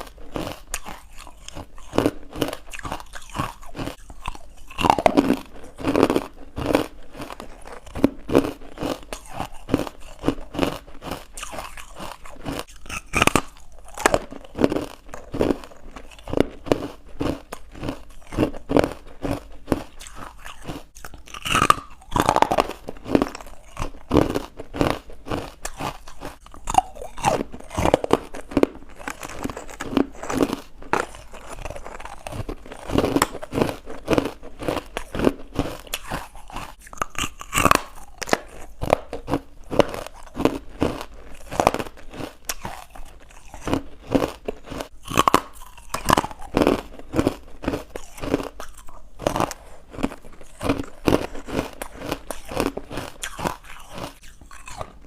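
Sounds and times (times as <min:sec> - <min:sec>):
chewing and crunching ice: 0:00.0 - 0:55.0.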